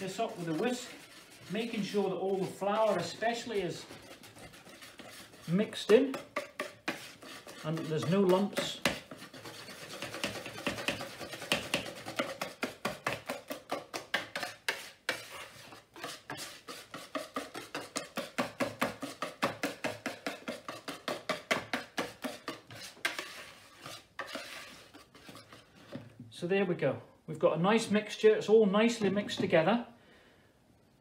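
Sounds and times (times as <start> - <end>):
whisk beating batter in bowl: 0.0 - 25.7.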